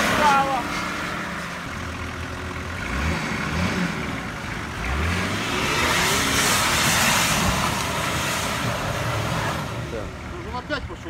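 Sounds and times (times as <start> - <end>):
engine revving: 0.0 - 10.5
tyres churning mud: 0.0 - 11.0.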